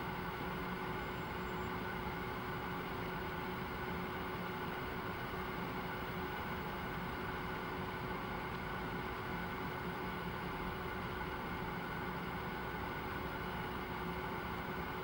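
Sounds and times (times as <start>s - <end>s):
constant humming tone: 0.0s - 15.0s
steady mechanical hum: 0.0s - 15.0s.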